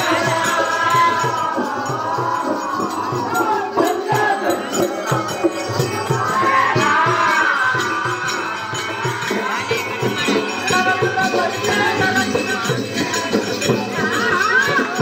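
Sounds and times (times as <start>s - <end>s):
crowd noise: 0.0s - 15.0s
fast drum beat: 0.0s - 15.0s
jingling percussion: 0.0s - 15.0s
person singing or calling: 0.0s - 15.0s.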